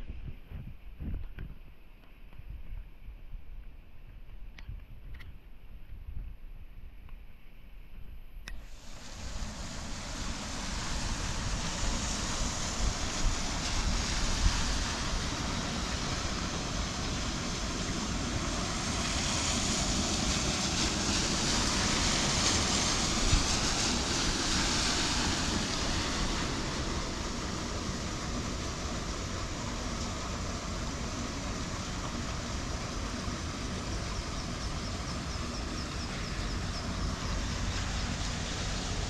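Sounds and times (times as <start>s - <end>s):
wind buffeting microphone: 0.0s - 7.1s, 9.0s - 39.0s
rain and water hiss: 0.5s - 39.0s.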